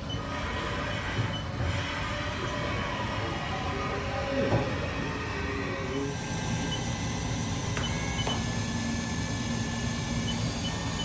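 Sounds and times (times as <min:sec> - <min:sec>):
machine hum: 0:00.0 - 0:11.0
steady machine tone: 0:00.0 - 0:11.0.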